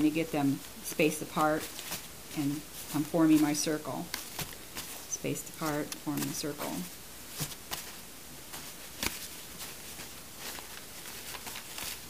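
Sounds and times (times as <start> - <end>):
diapers rustling: 0.0 - 12.0.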